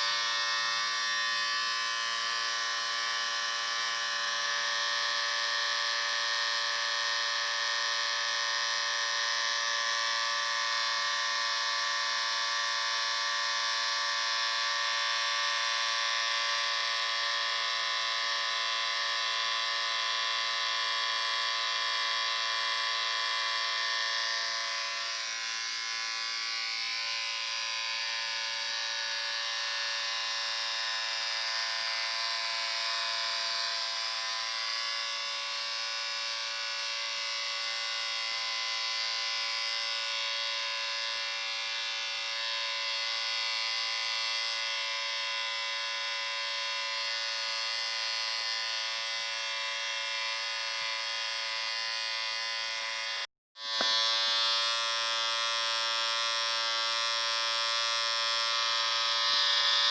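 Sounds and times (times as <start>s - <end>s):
electric shaver buzzing: 0.0s - 59.9s.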